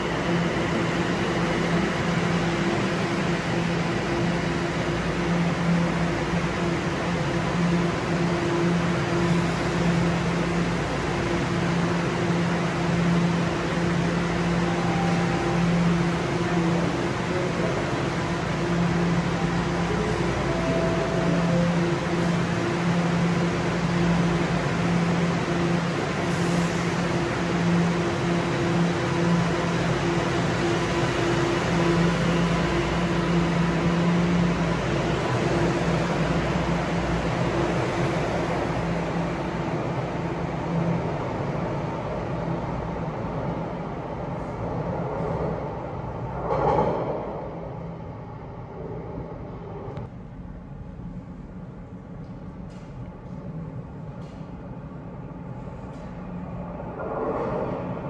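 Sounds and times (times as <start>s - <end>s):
constant whirring noise: 0.0s - 58.0s
train equipment low hum: 0.0s - 58.0s.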